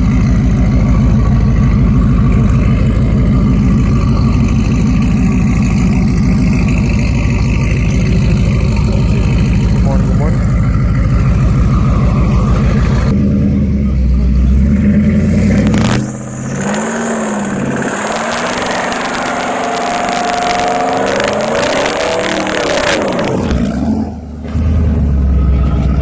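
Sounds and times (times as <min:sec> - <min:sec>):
engine accelerating through gears: 0:00.0 - 0:26.0
truck engine rumbling: 0:00.0 - 0:26.0.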